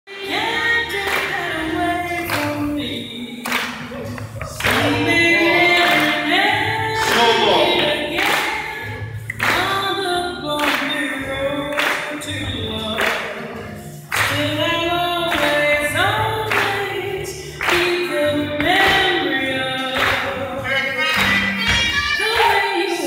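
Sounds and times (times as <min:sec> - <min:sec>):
swing music with harmony vocals: 0:00.1 - 0:23.0.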